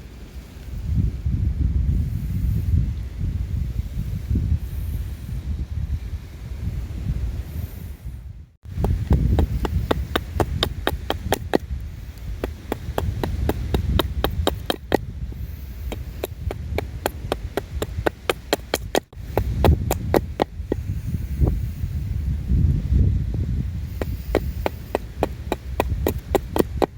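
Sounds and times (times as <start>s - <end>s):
wind rumble on microphone: 0.0s - 26.9s.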